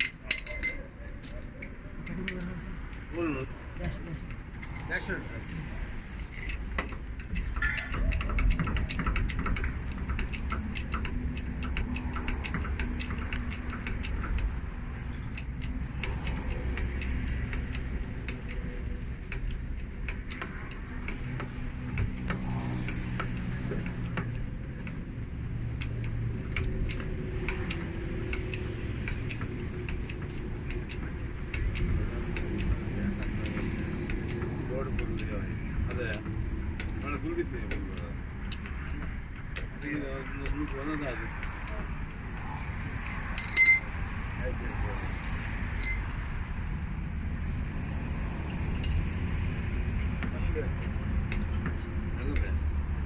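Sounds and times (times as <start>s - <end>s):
engine humming: 0.0s - 53.0s
metallic clinks and ticks: 0.0s - 53.0s.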